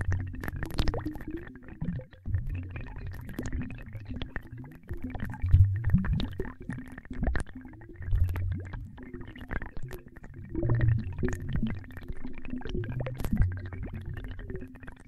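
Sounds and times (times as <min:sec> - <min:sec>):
synthetic gurgling bubbles: 0:00.0 - 0:15.0.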